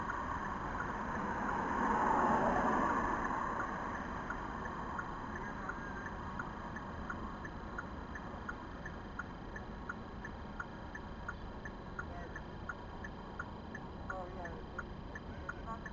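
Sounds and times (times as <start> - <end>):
turn signal clicking: 0.0 - 15.9.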